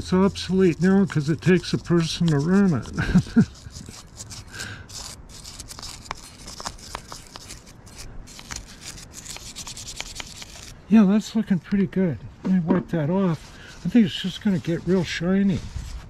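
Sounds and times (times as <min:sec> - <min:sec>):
brush scrubbing metal: 0:00.2 - 0:10.7, 0:13.3 - 0:15.9.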